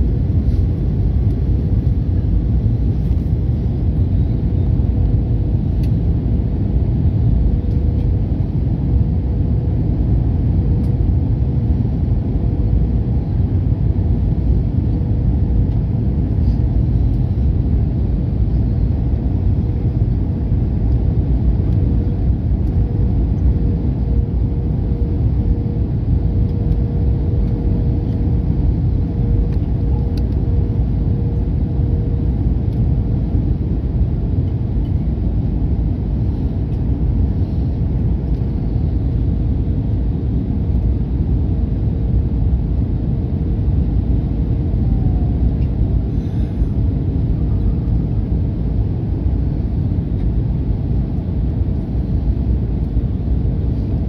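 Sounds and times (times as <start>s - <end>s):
airflow over fuselage: 0.0s - 54.0s
airliner engines rumbling: 0.0s - 54.0s
faint steady hum: 0.0s - 54.0s.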